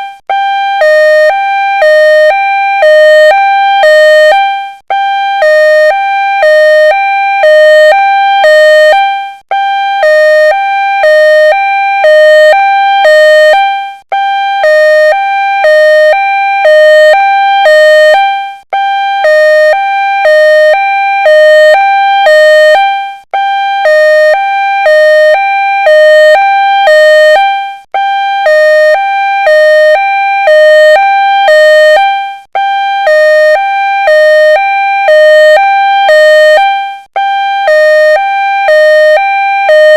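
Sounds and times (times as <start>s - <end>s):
two-tone ambulance siren: 0.0s - 39.9s.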